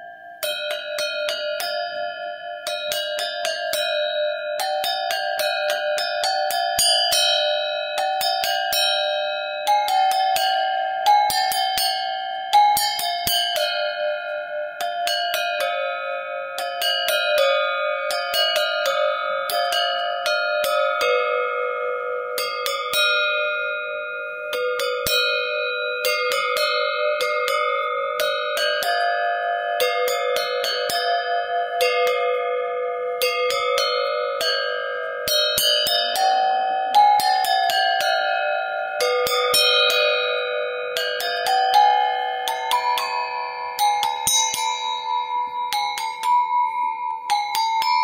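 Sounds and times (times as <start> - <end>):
livestock bells ringing: 0.0 - 48.0.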